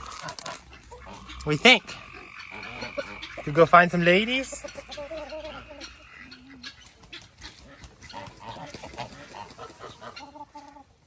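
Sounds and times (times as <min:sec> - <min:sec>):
clicks and rustling on ground: 0:00.0 - 0:11.0
farm birds calling: 0:00.0 - 0:11.0.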